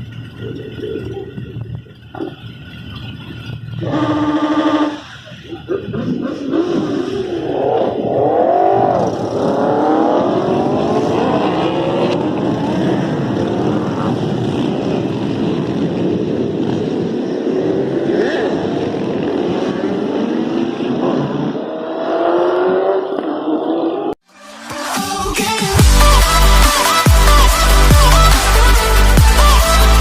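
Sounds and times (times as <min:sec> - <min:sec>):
motorcycle engines revving: 0:00.0 - 0:24.2.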